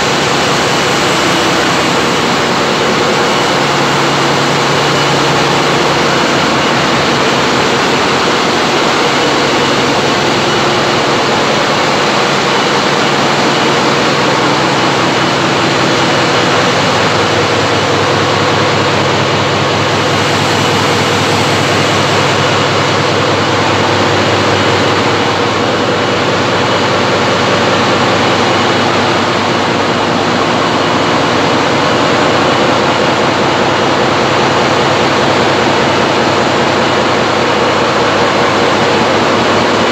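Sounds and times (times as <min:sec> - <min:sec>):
diesel generator engines running: 0:00.0 - 0:39.9.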